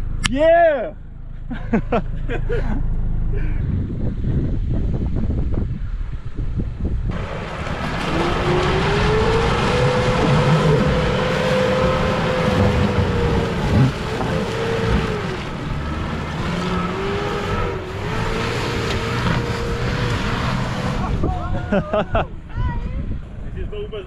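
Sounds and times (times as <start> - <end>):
off-road vehicle engine under load: 0.0 - 22.5.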